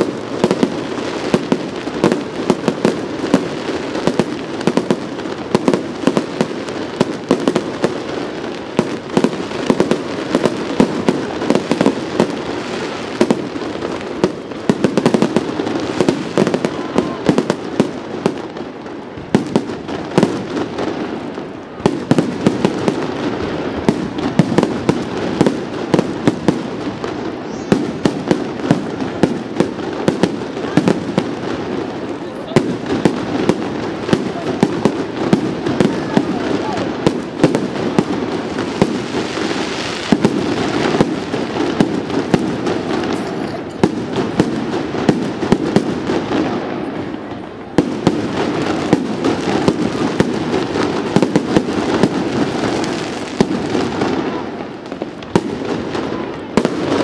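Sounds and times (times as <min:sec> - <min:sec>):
fireworks crackle: 0:00.0 - 0:57.0.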